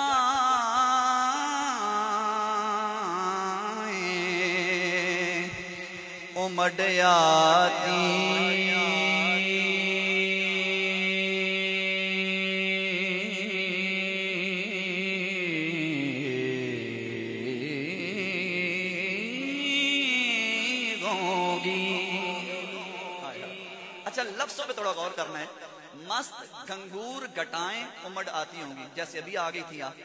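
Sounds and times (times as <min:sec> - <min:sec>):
man singing a drawn-out vowel: 0:00.0 - 0:24.4.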